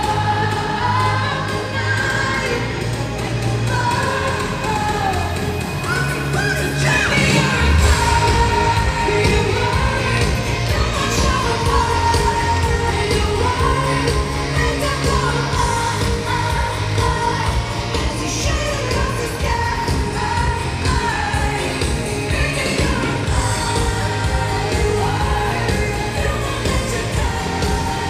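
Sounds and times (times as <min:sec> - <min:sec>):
heavy bass: 0:00.0 - 0:28.0
live pop song: 0:00.0 - 0:28.0
woman singing lead vocal: 0:00.0 - 0:28.0.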